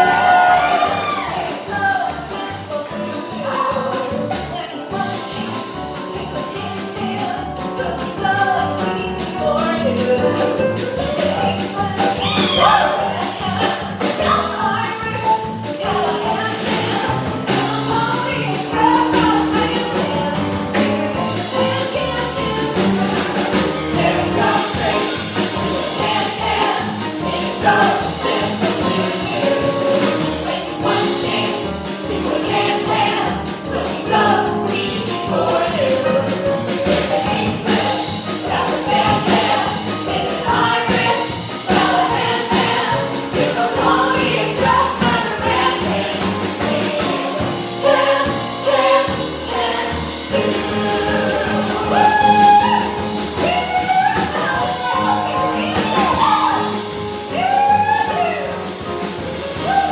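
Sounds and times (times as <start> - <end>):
voices singing upbeat show music: 0.0 - 59.9.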